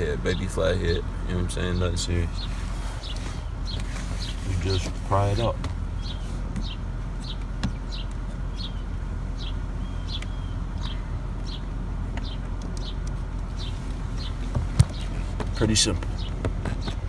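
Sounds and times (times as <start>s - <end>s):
bird chirping: 0.0s - 17.0s
low background rumble: 0.0s - 17.0s.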